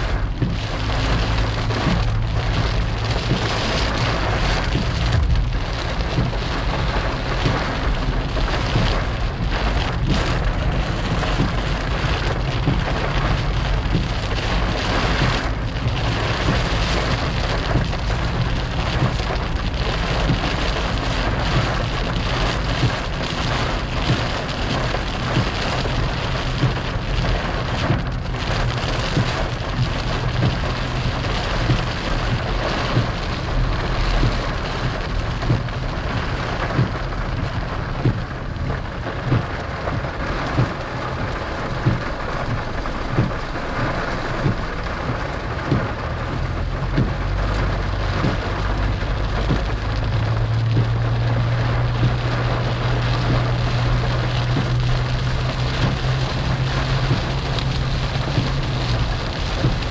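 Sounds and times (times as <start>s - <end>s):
low rumble: 0.0s - 59.9s
rain pouring: 0.0s - 59.9s.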